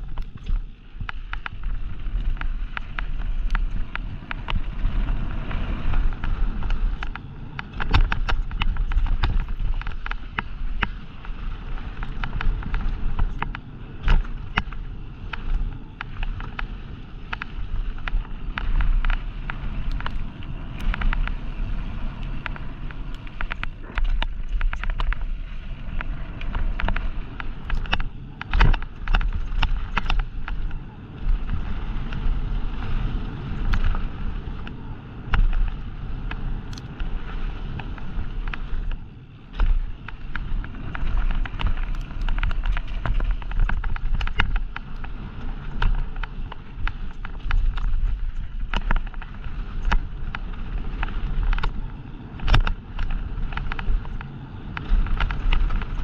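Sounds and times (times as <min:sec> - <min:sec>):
bike rattling over rough ground: 0:00.0 - 0:56.0
tyres rolling over loose stones: 0:00.0 - 0:56.0
wind noise on microphone: 0:00.0 - 0:56.0.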